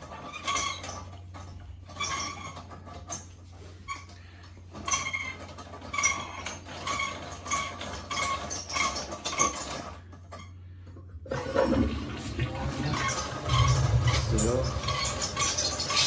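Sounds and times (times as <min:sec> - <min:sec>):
toilet auger squeaking: 0:00.0 - 0:10.6, 0:11.3 - 0:16.0.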